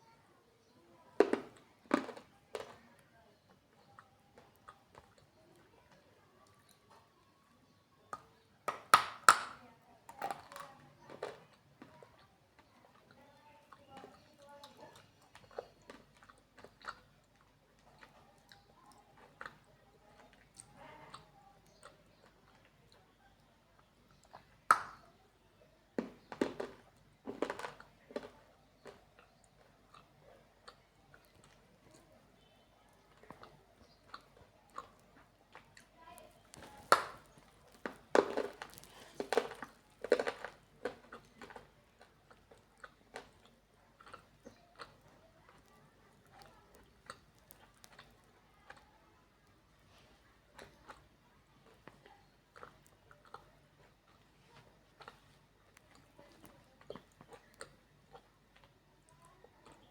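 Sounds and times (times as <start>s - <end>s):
clay being chewed crunching: 1.2s - 7.5s, 10.1s - 25.1s, 25.7s - 59.9s.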